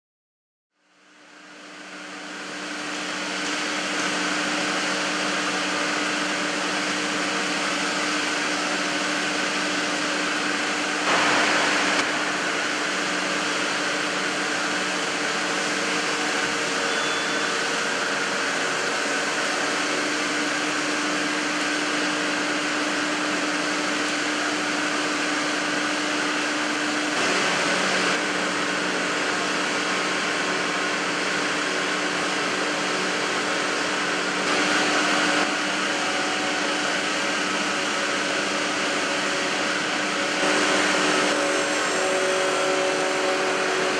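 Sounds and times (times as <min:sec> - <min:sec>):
hum and hiss of machinery: 0:00.8 - 0:43.9
steady machine tones: 0:03.0 - 0:43.9.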